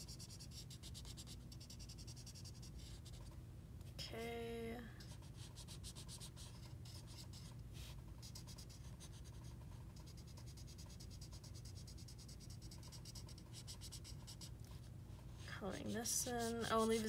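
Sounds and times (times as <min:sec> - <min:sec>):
marker scratching on paper: 0:00.0 - 0:03.4, 0:05.0 - 0:14.8, 0:15.7 - 0:17.0
room fan humming: 0:00.0 - 0:17.0.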